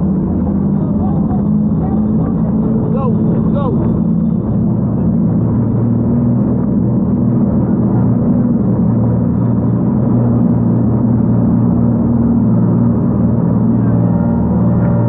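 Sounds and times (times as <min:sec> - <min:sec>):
jet boat engine drone: 0:00.0 - 0:15.0.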